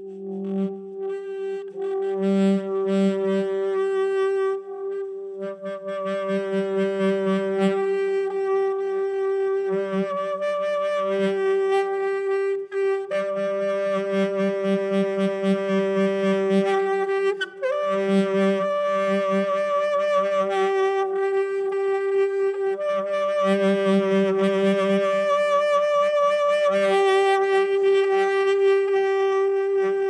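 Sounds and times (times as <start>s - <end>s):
saxophone long note: 0.0s - 30.0s.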